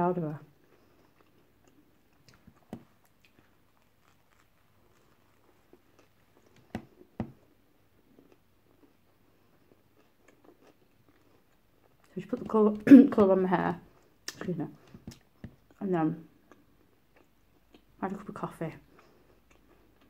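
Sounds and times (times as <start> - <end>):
person chewing: 0.4 - 12.4, 13.9 - 18.0, 18.8 - 20.0.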